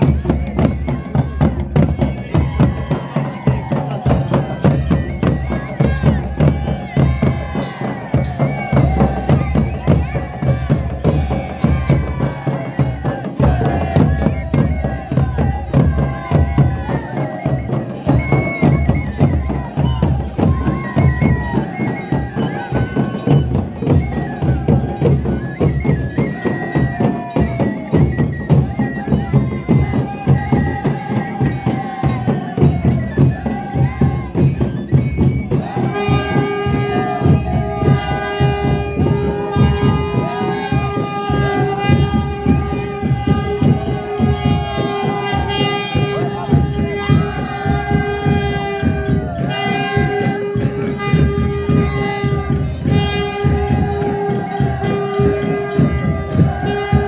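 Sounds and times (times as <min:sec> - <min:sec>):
fast drumming: 0:00.0 - 0:57.0.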